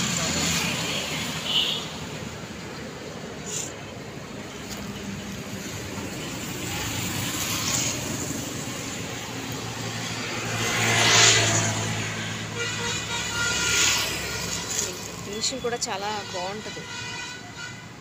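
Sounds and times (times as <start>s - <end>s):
vehicle passing: 0.0s - 15.6s
road traffic noise: 0.0s - 18.0s.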